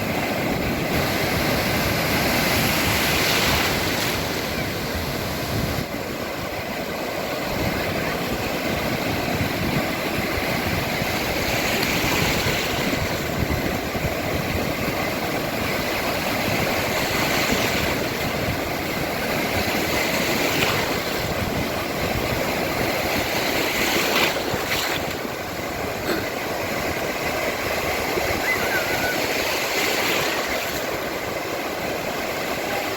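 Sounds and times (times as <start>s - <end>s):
sea surf washing in: 0.0s - 32.9s.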